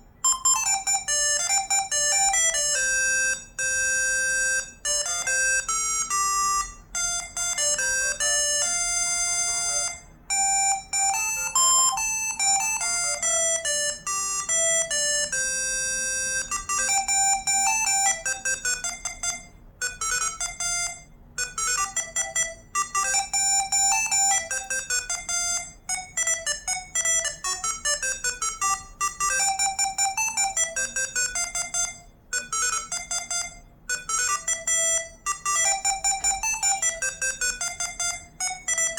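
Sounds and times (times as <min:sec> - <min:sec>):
electronic ringtone melodies: 0:00.0 - 0:38.9.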